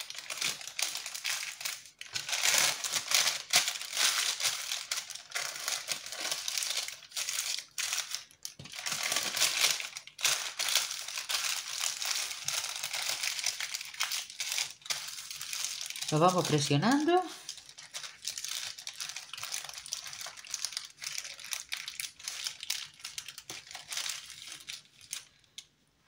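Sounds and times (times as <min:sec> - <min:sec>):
baking paper crinkling: 0:00.0 - 0:25.7.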